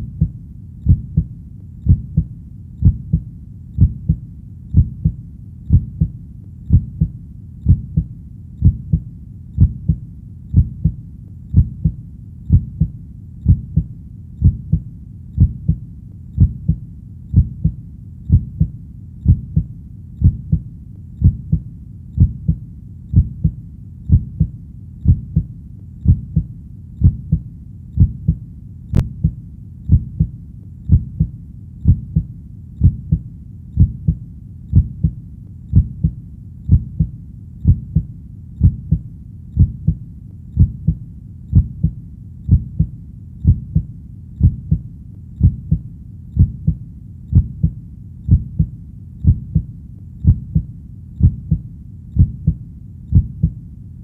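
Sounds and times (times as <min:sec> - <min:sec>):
heartbeat thumps: 0:00.0 - 0:53.6.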